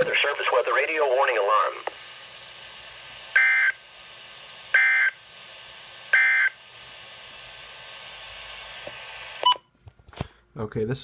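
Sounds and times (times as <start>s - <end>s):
radio hiss: 0.0s - 9.4s.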